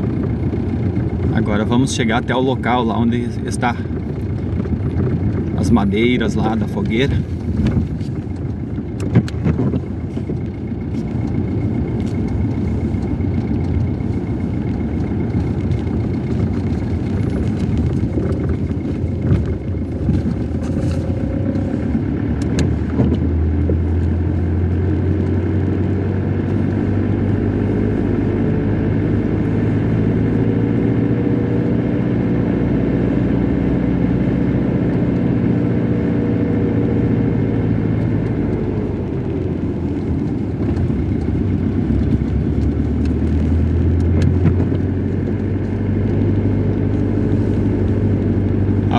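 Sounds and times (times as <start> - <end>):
car road and engine noise: 0.0 - 48.9.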